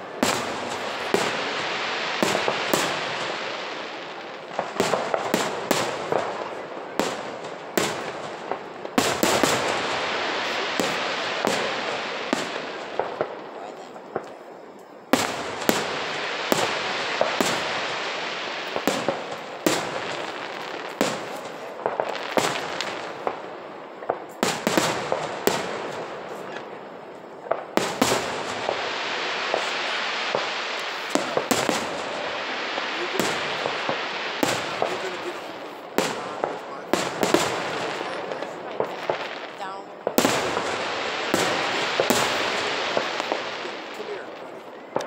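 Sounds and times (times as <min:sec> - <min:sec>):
fireworks bursting: 0:00.0 - 0:45.0
steady hiss: 0:00.0 - 0:45.0.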